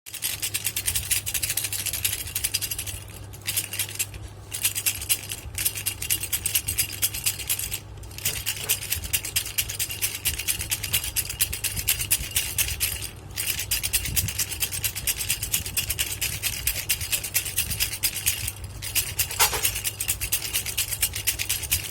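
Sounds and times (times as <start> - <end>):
baby rattle shaken rapidly: 0.1 - 21.9.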